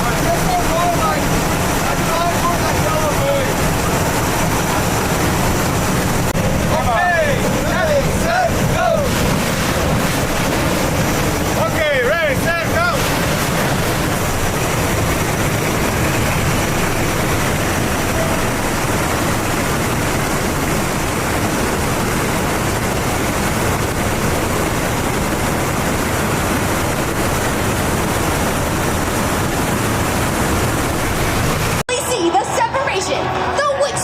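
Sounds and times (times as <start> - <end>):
loud steady rushing noise: 0.0 - 34.0.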